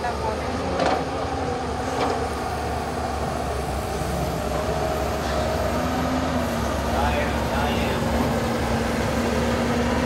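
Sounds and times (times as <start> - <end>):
train coach running on rails: 0.0 - 10.0.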